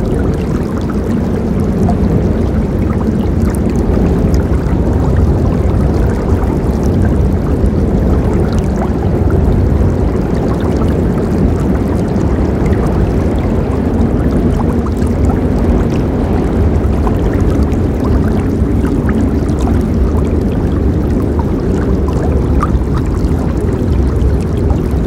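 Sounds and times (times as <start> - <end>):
water splashes and droplets: 0.0 - 25.0.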